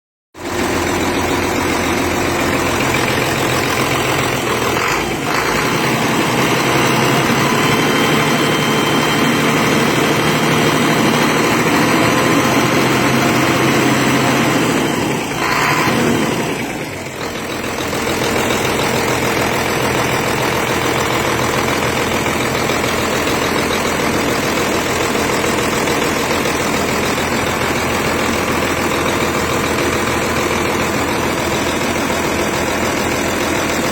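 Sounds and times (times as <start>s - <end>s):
diesel engine idling: 0.4s - 33.9s.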